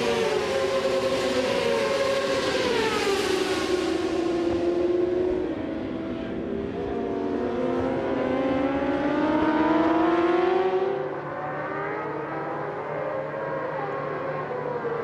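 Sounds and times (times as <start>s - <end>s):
motorcycle engines revving high: 0.0s - 15.0s.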